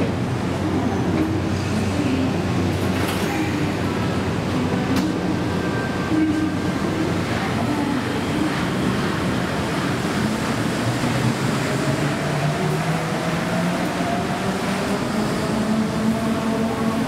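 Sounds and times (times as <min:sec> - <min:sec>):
monorail train running: 0:00.0 - 0:17.0.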